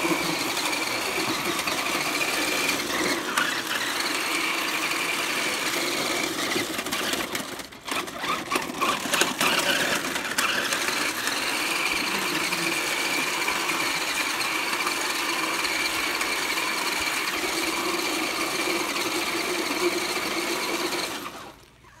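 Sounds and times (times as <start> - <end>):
toy truck motor whining: 0.0 - 22.0.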